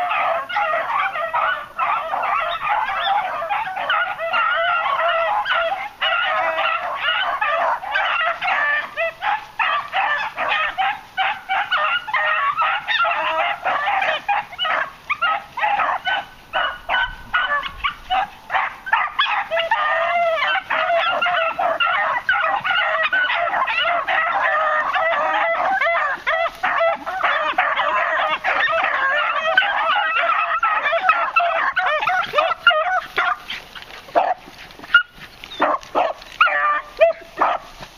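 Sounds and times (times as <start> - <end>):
beagles baying: 0.0 - 37.9.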